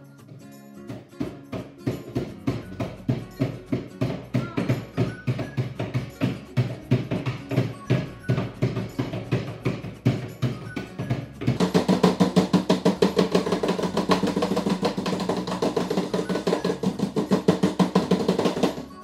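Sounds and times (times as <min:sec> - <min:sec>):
mallets pounding biscuits in bags: 0:00.9 - 0:19.0.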